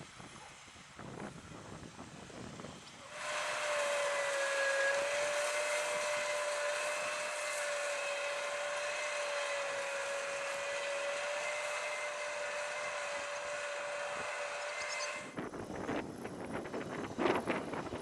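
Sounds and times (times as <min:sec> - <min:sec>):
tractor running under load: 0:01.5 - 0:18.0.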